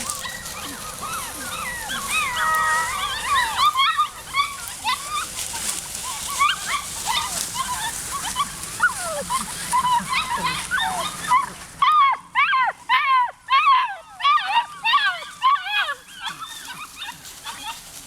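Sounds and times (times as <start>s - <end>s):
puppies whining and yipping: 0.0s - 18.0s.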